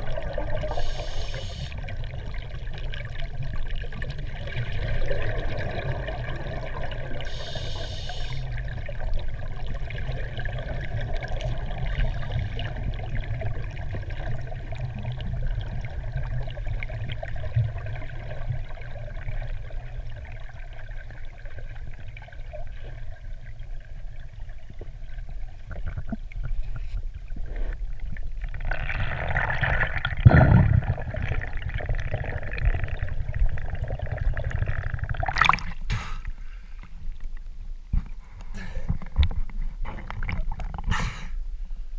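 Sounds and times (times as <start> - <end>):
underwater low rumble: 0.0 - 41.9.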